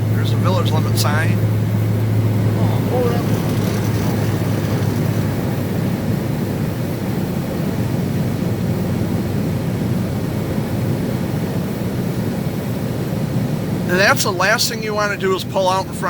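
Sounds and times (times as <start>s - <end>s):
road and engine noise inside vehicle: 0.0s - 16.0s.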